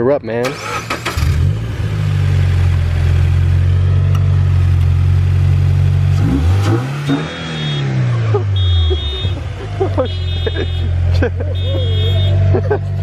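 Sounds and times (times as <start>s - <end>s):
car engine starting and idling: 0.3s - 13.0s
car engine revving: 0.4s - 13.0s.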